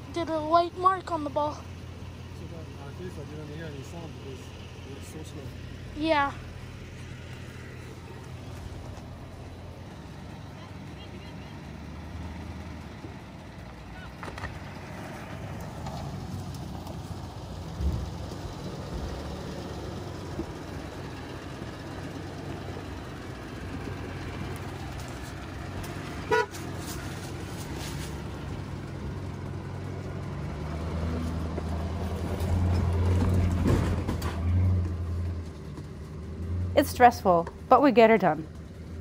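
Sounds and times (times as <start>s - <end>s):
truck engine at low revs: 0.0s - 39.0s.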